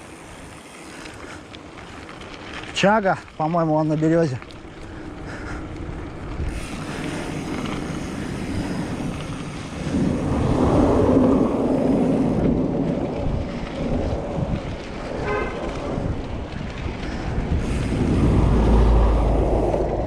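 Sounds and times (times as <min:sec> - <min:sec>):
bike tyres rumbling on dirt: 0:00.0 - 0:20.0
wind buffeting microphone: 0:00.0 - 0:20.0.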